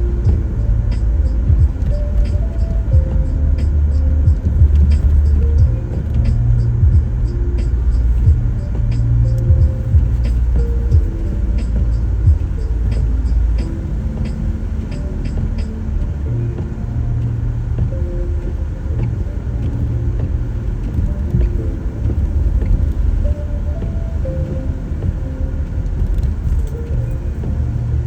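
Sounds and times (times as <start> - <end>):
quiet music: 0.0 - 28.0
road rumble inside car: 0.0 - 28.0.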